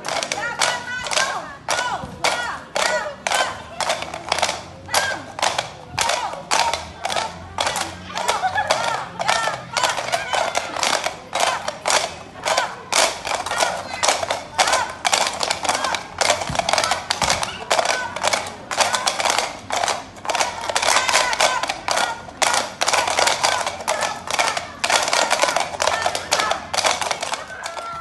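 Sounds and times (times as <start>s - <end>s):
coconut-shell stilts clacking on paving: 0.0s - 28.0s.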